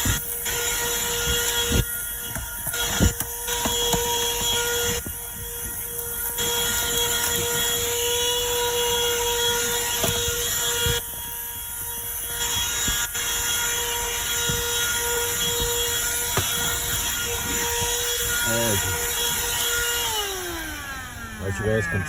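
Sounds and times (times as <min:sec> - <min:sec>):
handheld vacuum motor whine: 0:00.0 - 0:22.0.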